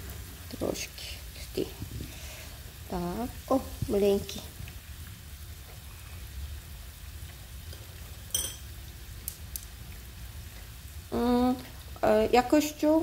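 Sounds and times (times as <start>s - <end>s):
tofu sizzling in oil: 0.0s - 13.0s.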